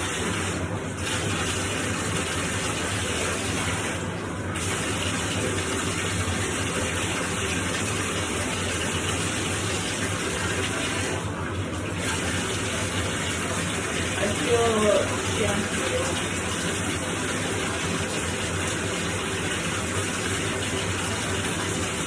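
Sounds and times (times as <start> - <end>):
bath water running from tap: 0.0 - 22.0.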